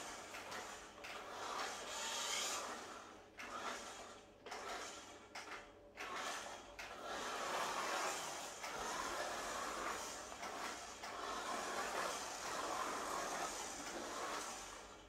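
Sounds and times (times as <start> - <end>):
toy car motor whirring: 0.0 - 15.0.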